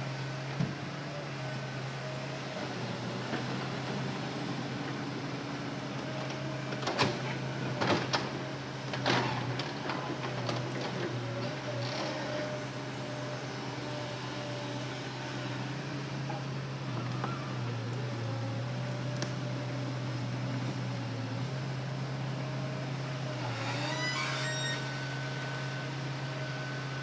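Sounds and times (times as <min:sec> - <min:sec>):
excavator engine droning: 0:00.0 - 0:27.0.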